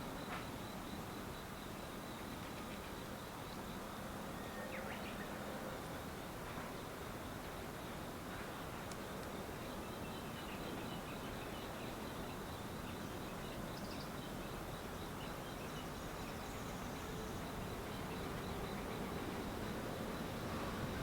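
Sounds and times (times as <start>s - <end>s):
faint insect chirps: 0.0s - 21.0s
steady background noise: 0.0s - 21.0s.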